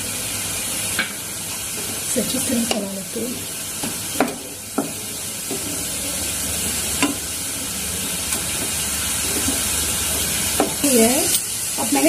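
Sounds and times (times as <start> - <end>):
mixture sizzling: 0.0 - 12.0.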